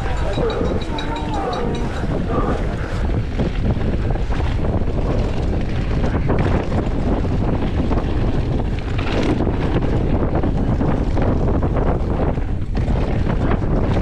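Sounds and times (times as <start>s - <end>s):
bike rattling: 0.0s - 14.0s
tyres rumbling on dirt: 0.0s - 14.0s
wind buffeting microphone: 0.0s - 14.0s.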